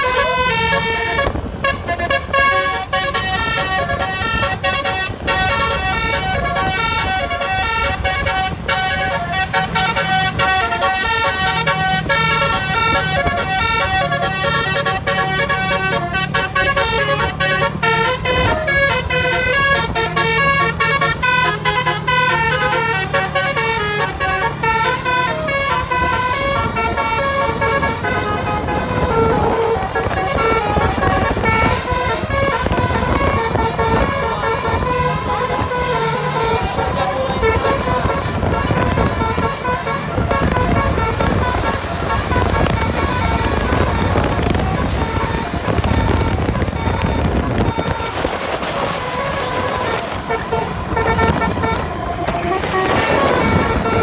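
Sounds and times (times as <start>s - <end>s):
bus engine running: 0.0s - 54.0s
bus horn playing a fast tune: 0.0s - 54.0s.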